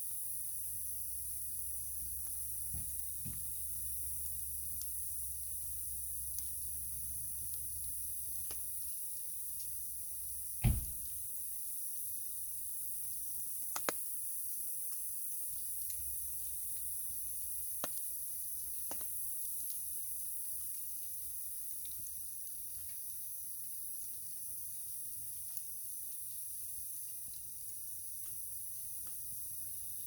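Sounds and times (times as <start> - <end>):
wood fire crackling: 0.1 - 11.5, 13.2 - 23.2, 23.9 - 30.0.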